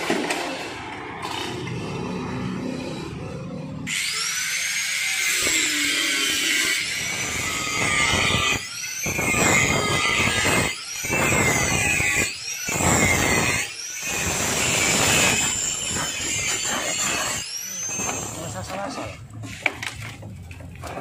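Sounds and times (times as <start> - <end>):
angle grinder whining: 0.0 - 20.2.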